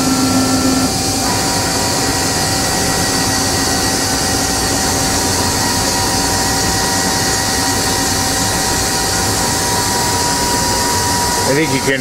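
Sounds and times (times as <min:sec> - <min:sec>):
constant whining tones: 0:00.0 - 0:12.0
machinery humming and hissing: 0:00.0 - 0:12.0.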